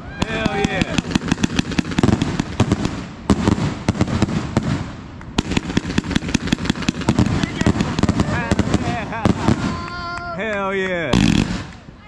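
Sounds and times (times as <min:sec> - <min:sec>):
firework cake firing rapid volleys: 0:00.2 - 0:11.9.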